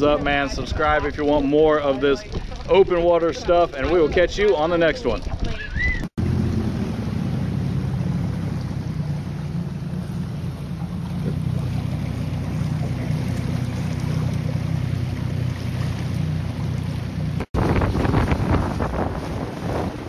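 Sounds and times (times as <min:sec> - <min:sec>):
outboard motor running: 0:00.0 - 0:20.0
rushing water: 0:00.0 - 0:20.0
wind: 0:00.0 - 0:20.0.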